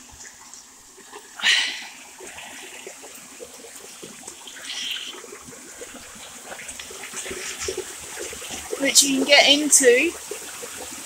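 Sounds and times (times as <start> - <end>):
water trickling over rocks: 0.0 - 11.0.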